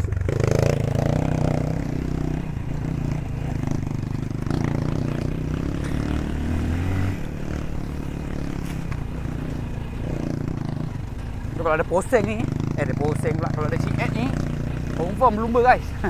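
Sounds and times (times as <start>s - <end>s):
bike clattering over rough trail: 0.0s - 16.0s
motorcycle engine running: 0.0s - 16.0s.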